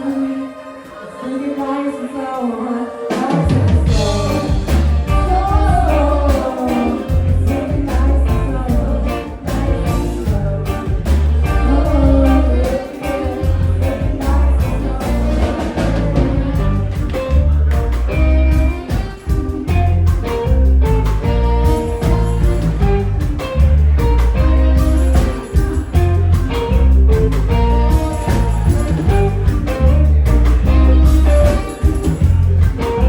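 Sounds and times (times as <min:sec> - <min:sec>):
drums: 0:00.0 - 0:33.0
live rock band with singing: 0:00.0 - 0:33.0.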